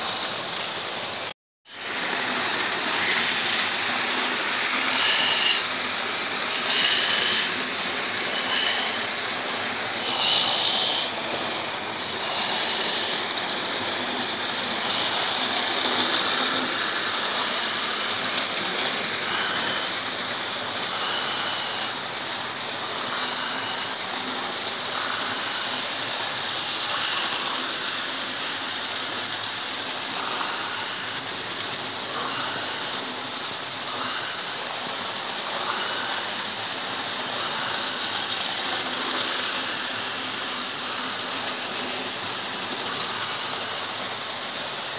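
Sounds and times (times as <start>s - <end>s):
model trains whirring on track: 0.0s - 44.9s.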